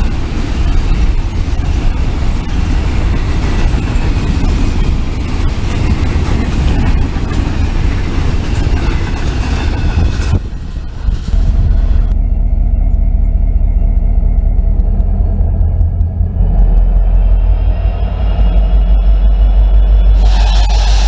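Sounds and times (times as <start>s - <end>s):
train clanks: 0.0s - 21.0s
train wheels rumbling on rail: 0.0s - 21.0s.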